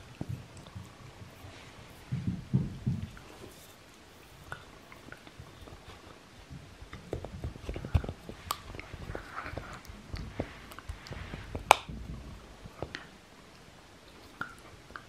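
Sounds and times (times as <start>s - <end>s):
dog gnawing on wood: 2.8s - 15.0s.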